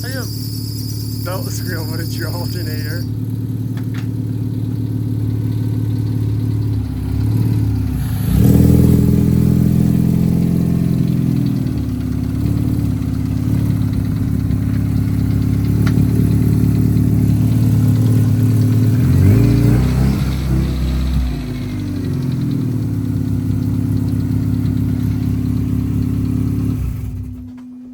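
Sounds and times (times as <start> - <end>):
car engine running: 0.0 - 27.9.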